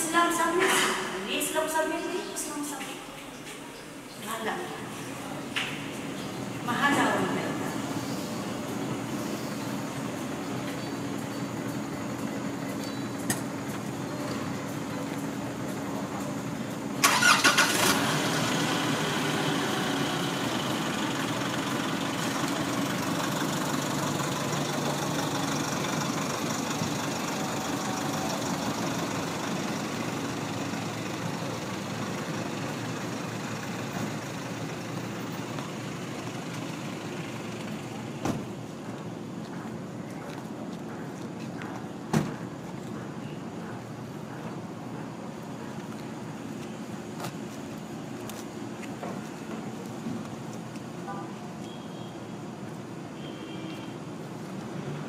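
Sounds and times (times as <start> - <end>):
vehicle engine running: 5.9 - 50.9.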